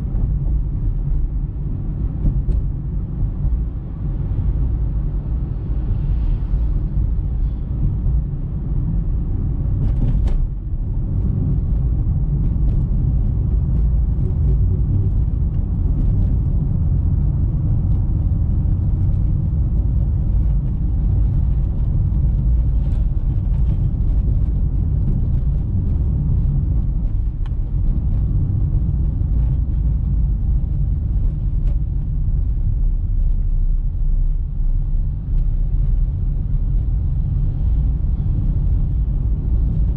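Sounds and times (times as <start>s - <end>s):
car tyres and engine rumbling: 0.0s - 39.9s.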